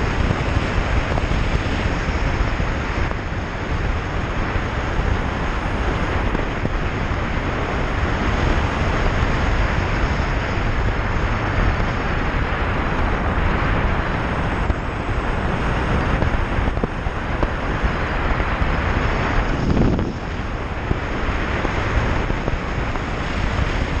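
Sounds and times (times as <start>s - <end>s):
road noise: 0.0s - 24.0s
wind rushing over microphone: 0.0s - 24.0s.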